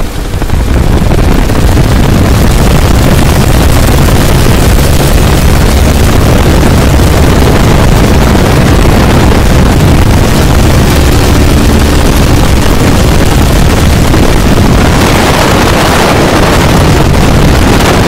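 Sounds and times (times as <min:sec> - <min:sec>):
biplane engine running: 0:00.0 - 0:18.0
wind buffeting microphone: 0:00.0 - 0:18.0.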